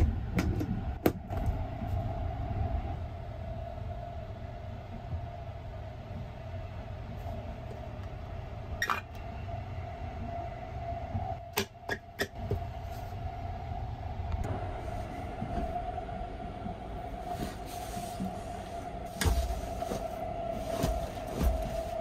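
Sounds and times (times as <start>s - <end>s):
constant hum: 0.0s - 22.0s
train low rumble: 0.0s - 22.0s.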